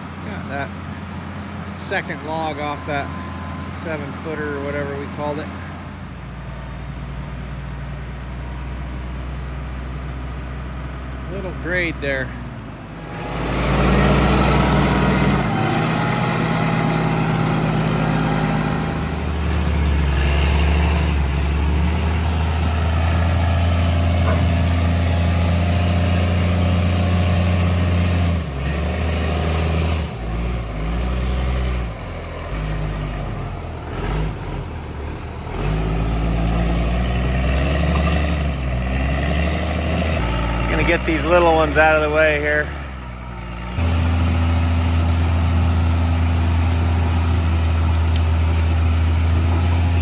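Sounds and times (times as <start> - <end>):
diesel engine under load: 0.0 - 50.0.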